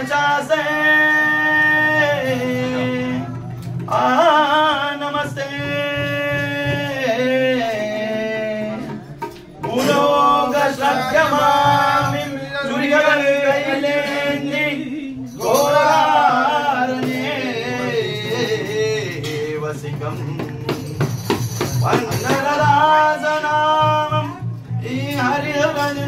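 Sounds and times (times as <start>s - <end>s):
man singing devotional song: 0.0s - 26.0s.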